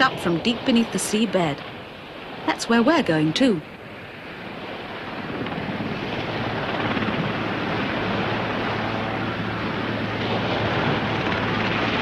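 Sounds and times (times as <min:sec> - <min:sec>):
helicopter flying: 0:00.0 - 0:12.0.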